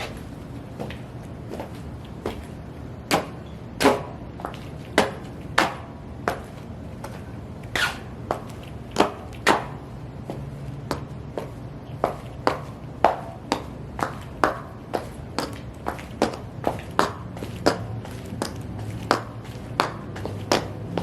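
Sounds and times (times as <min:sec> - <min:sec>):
high heels stomping: 0:00.0 - 0:21.0.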